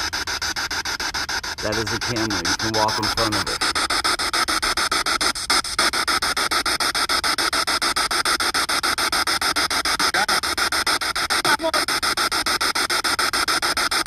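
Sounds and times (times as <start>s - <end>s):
chopping radio static: 0.0s - 14.0s.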